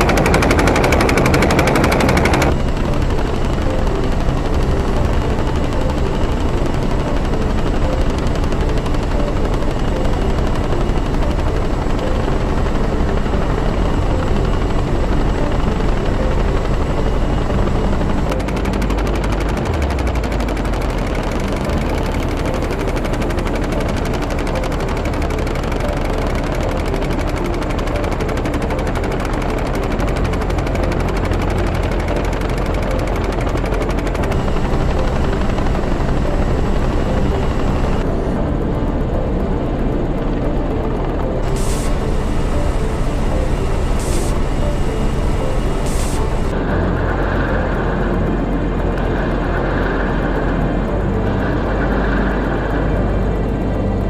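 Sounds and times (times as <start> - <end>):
helicopter rotor blades chopping: 0.0 - 54.0.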